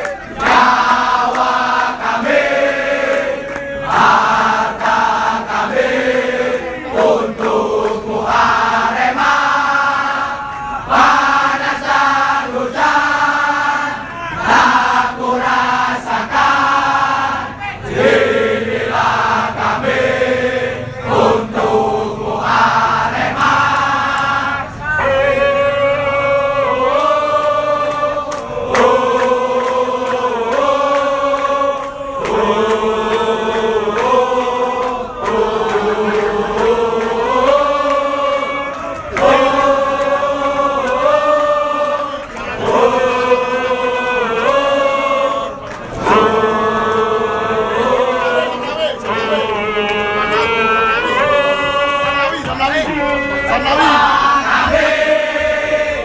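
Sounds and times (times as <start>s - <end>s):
crowd singing a chant: 0.0s - 56.0s.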